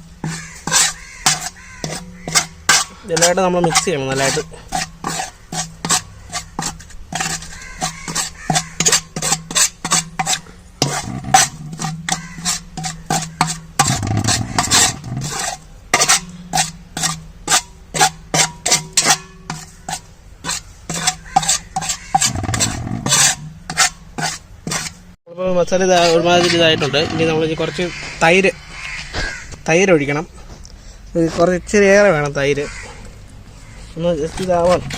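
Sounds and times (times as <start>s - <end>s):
spoon scraping spices in bowl: 0.0s - 25.1s, 25.8s - 28.1s, 33.9s - 34.9s.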